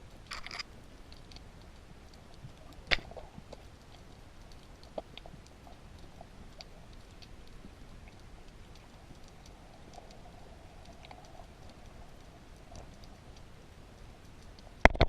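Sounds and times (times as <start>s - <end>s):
short clicks and crackles: 0.1s - 15.0s.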